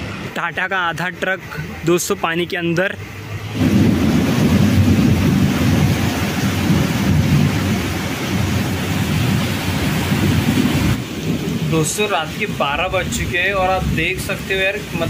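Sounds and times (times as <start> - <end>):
deep continuous rumble: 0.0 - 15.0
heavy rain pouring: 0.0 - 15.0.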